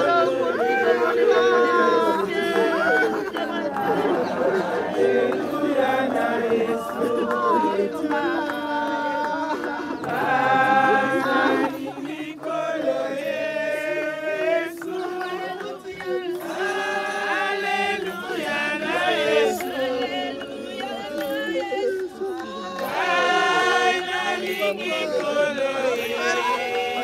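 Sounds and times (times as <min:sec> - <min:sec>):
group singing long slow notes: 0:00.0 - 0:27.0.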